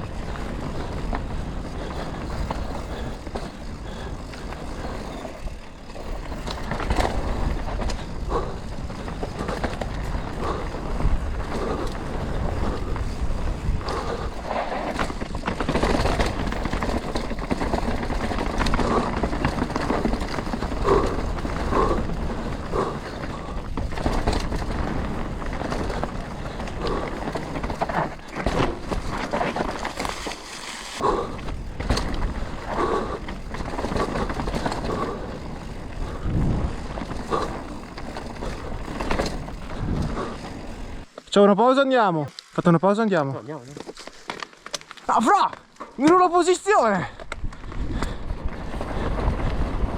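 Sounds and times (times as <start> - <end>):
bike knocks and rattles: 0.0 - 41.2
bike tyres rolling over dirt: 0.0 - 49.9.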